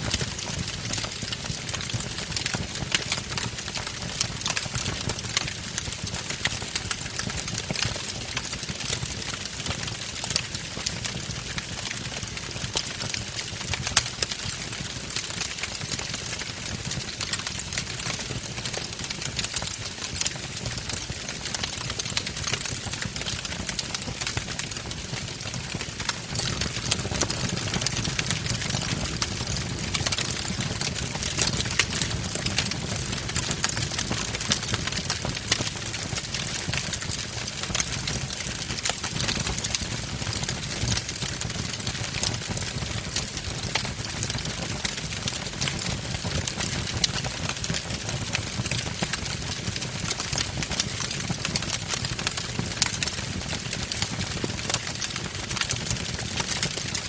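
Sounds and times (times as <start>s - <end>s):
low rumble of flames: 0.0s - 57.0s
wood fire crackling: 0.0s - 57.0s.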